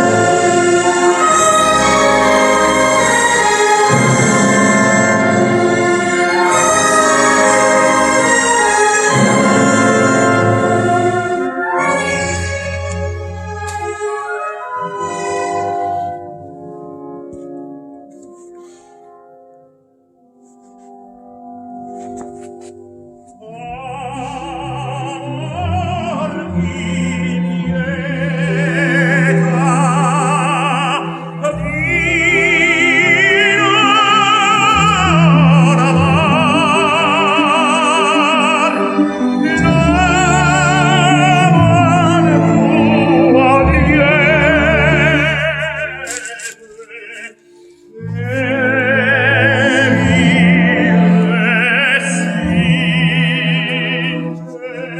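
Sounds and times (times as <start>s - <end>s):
operatic singing with vibrato: 0.0s - 16.8s, 23.4s - 54.9s
classical accompaniment: 0.0s - 54.9s.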